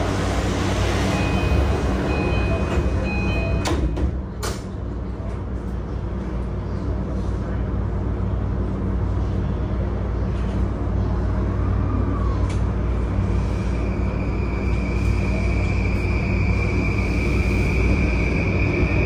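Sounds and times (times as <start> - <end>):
train running low rumble: 0.0 - 19.0.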